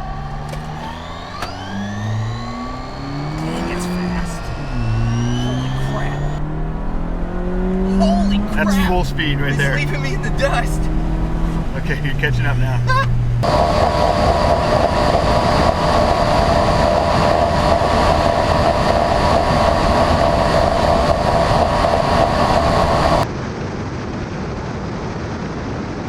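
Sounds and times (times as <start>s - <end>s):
vehicle whine: 0.0s - 23.2s
wind and road noise: 0.0s - 26.0s.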